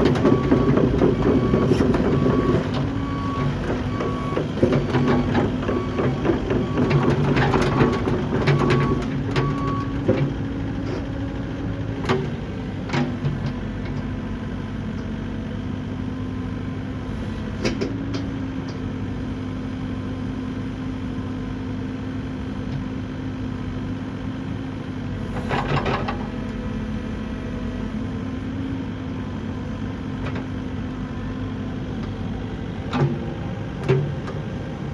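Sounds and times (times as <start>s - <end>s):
excavator diesel engine idling: 0.0s - 25.3s, 26.0s - 34.9s.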